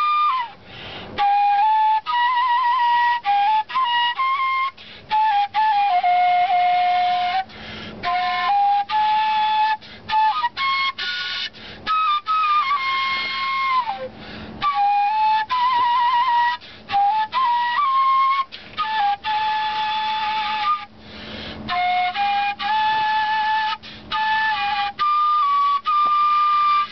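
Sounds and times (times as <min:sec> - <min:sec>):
wooden flute solo melody: 0:00.0 - 0:26.9.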